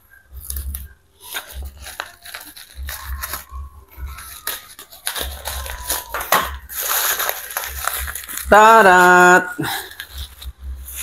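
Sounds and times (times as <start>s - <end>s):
plastic bag crinkling and tearing: 0.6s - 10.4s.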